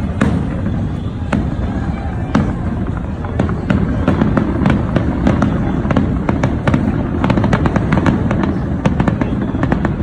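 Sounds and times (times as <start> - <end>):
fireworks cracking: 0.0 - 10.0.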